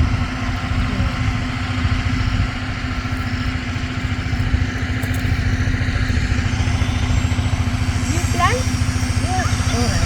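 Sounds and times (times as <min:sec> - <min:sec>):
generator engine running: 0:00.0 - 0:10.0.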